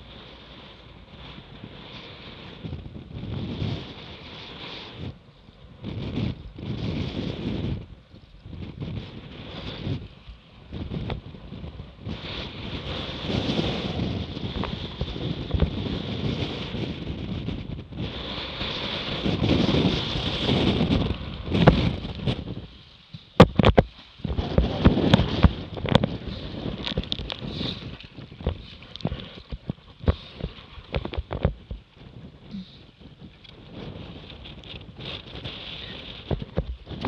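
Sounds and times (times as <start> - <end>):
water rushing against hull: 0.0 - 37.0
wind buffeting microphone: 0.0 - 37.0.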